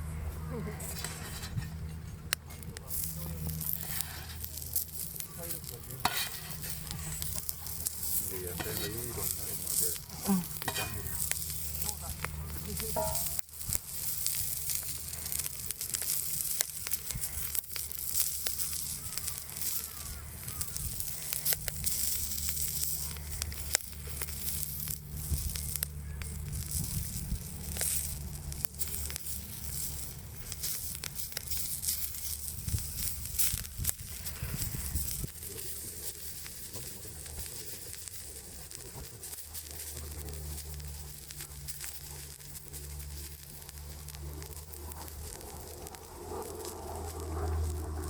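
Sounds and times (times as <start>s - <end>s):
wood fire crackling and popping: 0.4s - 48.0s
oil sizzling on hot griddle: 2.8s - 47.9s.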